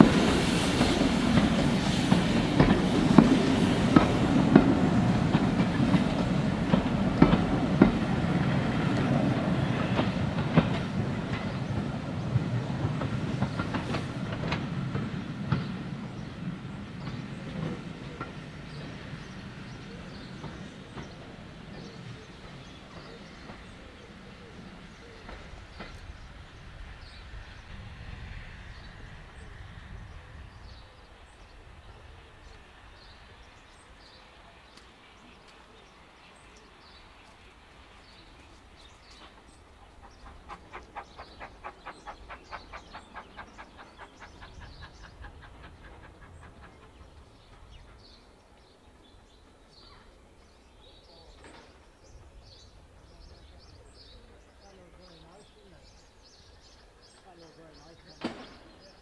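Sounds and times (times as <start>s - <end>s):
birds chirping: 0.0s - 59.0s
train rumbling: 0.0s - 59.0s.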